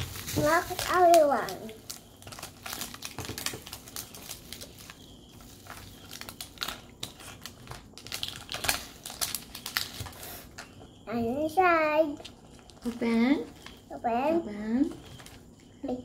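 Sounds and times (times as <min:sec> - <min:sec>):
plastic wrapper crinkling: 0:00.0 - 0:10.9, 0:12.2 - 0:13.9, 0:14.9 - 0:15.7.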